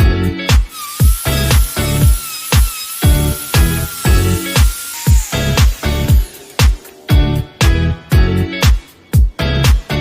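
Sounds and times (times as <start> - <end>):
funk music: 0.0 - 2.2, 3.0 - 10.0.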